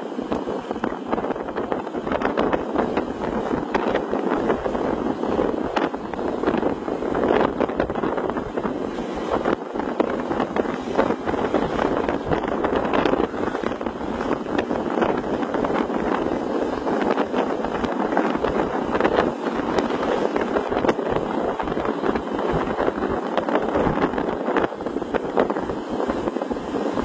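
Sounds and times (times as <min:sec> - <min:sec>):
highway road and wind noise: 0:00.0 - 0:27.0.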